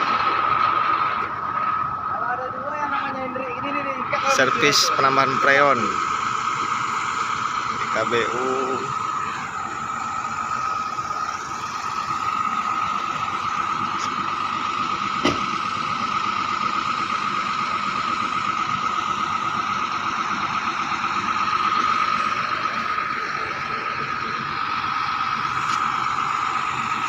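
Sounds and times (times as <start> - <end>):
engine running with high whine: 0.0 - 27.0.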